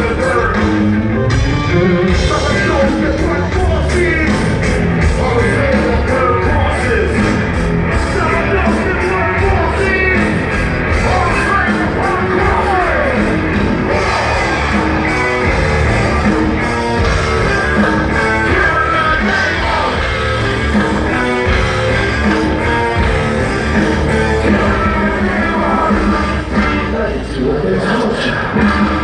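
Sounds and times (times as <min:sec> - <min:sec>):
live rock band: 0:00.0 - 0:29.0
rapped and shouted vocals: 0:02.2 - 0:29.0.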